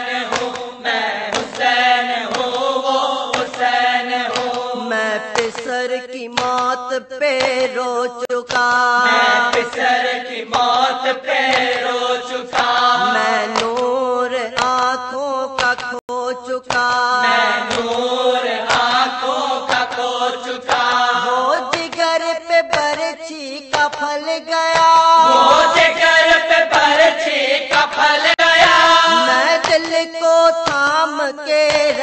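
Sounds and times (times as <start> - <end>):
person chanting melodically: 0.0 - 32.0.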